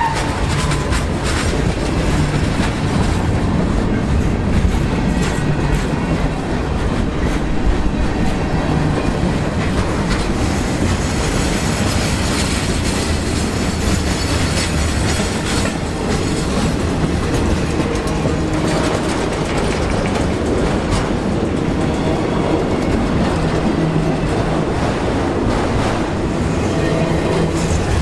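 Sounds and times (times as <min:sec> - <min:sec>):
clickety-clack of train wheels: 0:00.0 - 0:28.0
train wheels rumbling on rails: 0:00.0 - 0:28.0.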